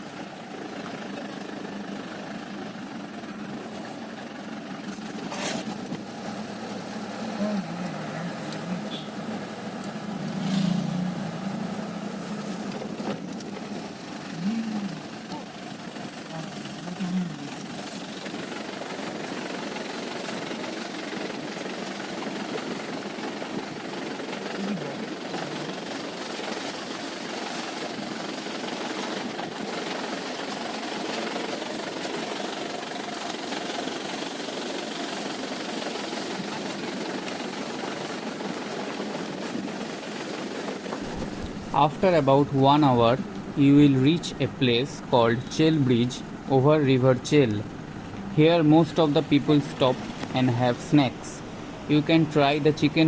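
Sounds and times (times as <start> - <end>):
vehicle engine humming: 0.0 - 53.0.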